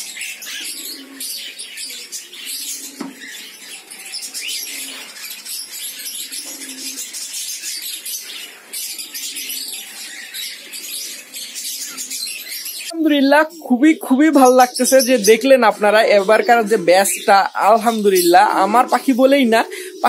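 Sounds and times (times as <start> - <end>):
young birds chirping: 0.0 - 20.0.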